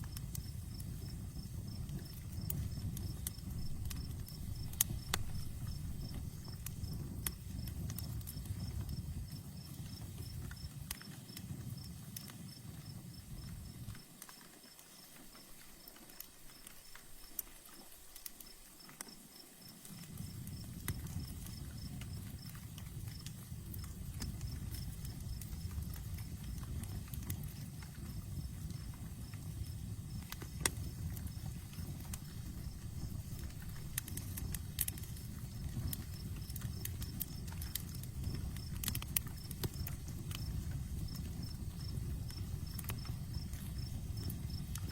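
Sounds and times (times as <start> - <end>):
cricket chirping: 0.0 - 14.1, 14.8 - 44.9
campfire crackling: 0.0 - 44.9.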